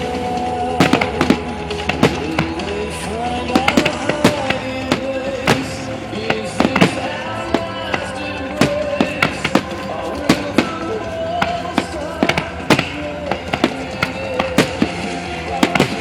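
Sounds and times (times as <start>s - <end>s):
firework shells bursting: 0.0s - 16.0s
music playing: 0.0s - 16.0s.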